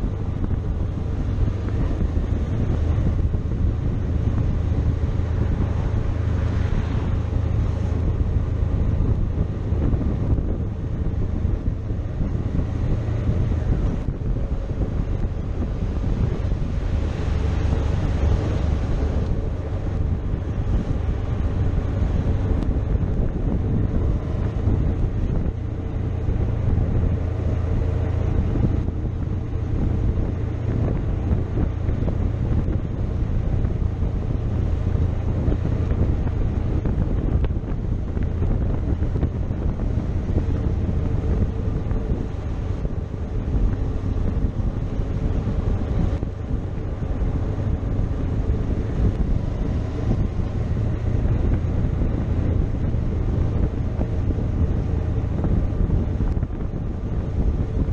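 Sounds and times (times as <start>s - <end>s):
wind rushing on microphone: 0.0s - 57.9s.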